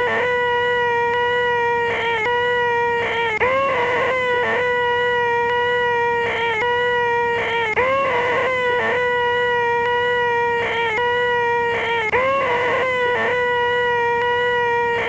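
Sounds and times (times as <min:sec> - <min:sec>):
man's nasal buzzing screech: 0:00.0 - 0:15.0.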